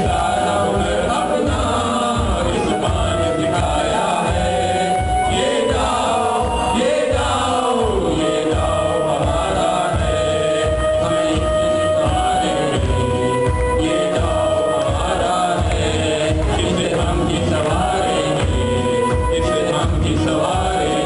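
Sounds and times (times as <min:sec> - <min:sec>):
choir singing: 0:00.0 - 0:21.0
musical accompaniment with low beat: 0:00.0 - 0:21.0.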